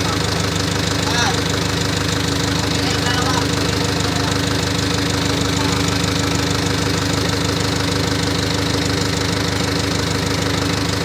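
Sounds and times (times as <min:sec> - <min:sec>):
diesel generator running: 0:00.0 - 0:11.0.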